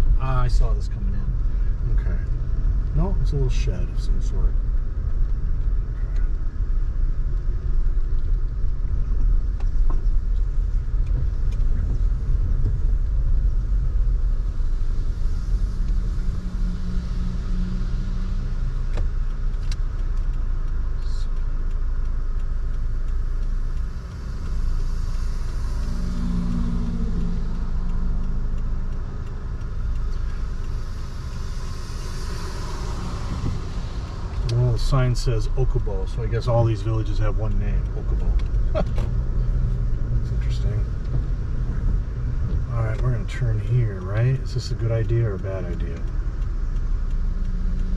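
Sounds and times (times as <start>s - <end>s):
car engine and tyre rumble in cabin: 0.0s - 47.9s.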